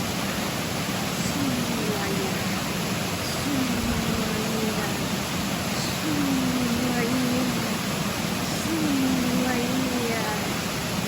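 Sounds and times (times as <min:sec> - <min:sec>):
flowing water: 0:00.0 - 0:11.0.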